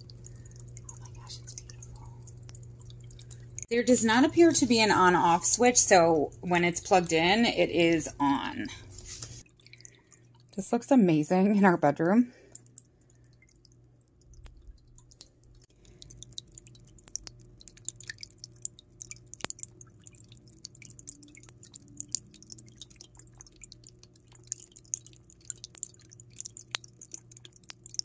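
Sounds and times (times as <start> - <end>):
faint low hum: 0.0 - 28.0
water fountain trickling: 0.0 - 28.0.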